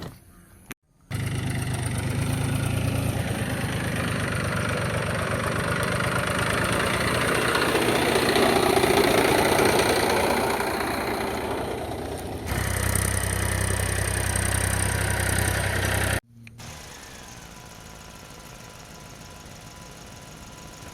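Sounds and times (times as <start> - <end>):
tractor engine running: 1.1 - 20.9.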